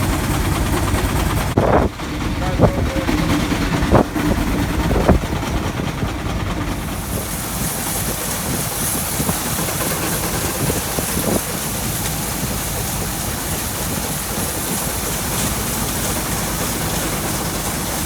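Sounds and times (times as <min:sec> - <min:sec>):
farm machinery rumbling: 0:00.0 - 0:18.0.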